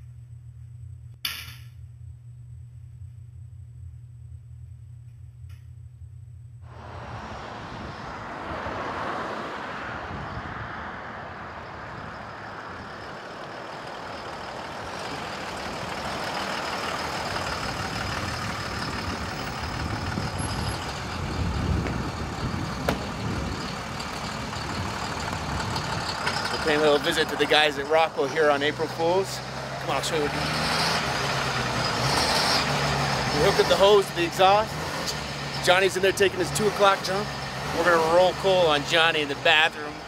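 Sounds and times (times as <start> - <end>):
diesel truck engine rumbling: 6.6 - 40.0.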